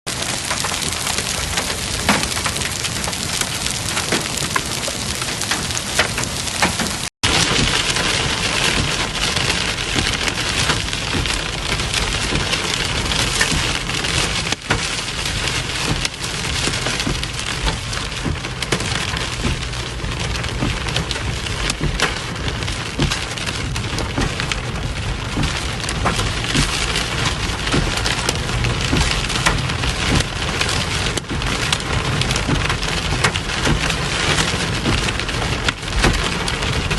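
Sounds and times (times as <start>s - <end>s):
heavy rain on hard surfaces: 0.0s - 36.9s.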